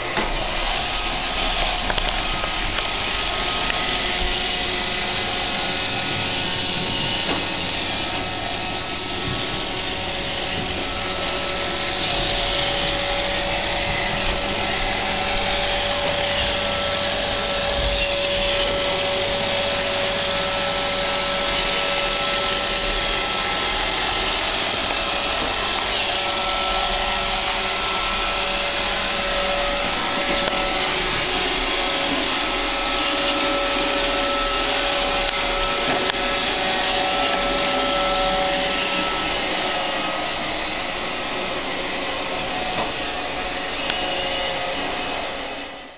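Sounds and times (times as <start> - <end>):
robot vacuum whirring: 0.0 - 45.9
steady whine: 0.0 - 45.9.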